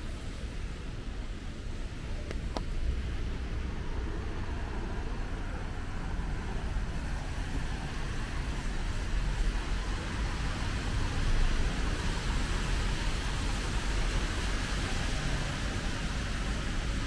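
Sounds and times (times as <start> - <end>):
traffic on wet streets: 0.0 - 17.0.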